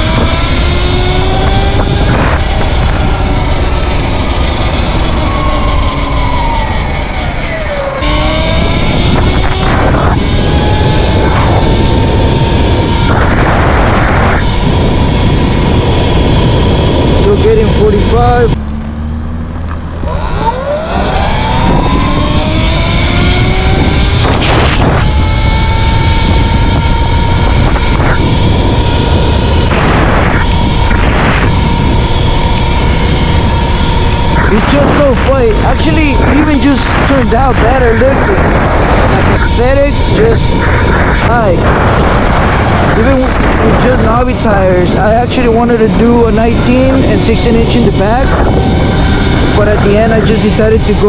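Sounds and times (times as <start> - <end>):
electric dirt bike drivetrain whine: 0.0 - 51.0
heavy wind rush: 0.0 - 51.0.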